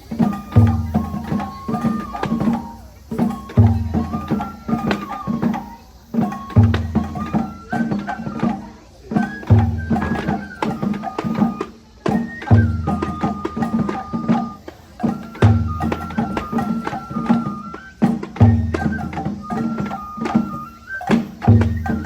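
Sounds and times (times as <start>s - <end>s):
deep drum beat: 0.0s - 22.0s
flute playing high notes: 0.0s - 22.0s
quick drum and percussion strokes: 0.0s - 22.0s.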